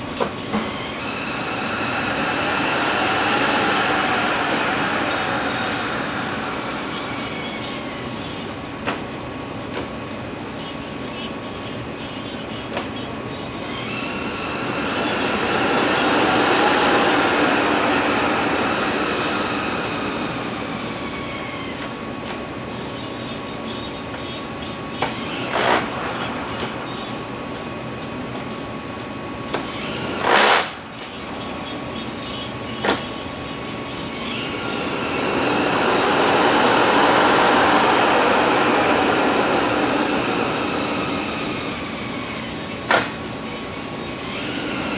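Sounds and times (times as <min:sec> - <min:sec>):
drivetrain mechanical whir and whine: 0:00.0 - 0:44.9.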